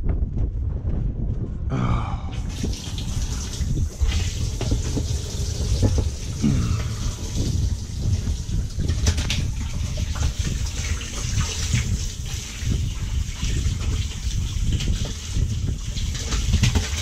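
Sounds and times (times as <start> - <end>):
steady low rumble: 0.0 - 16.2
water gushing and splashing: 1.8 - 17.0.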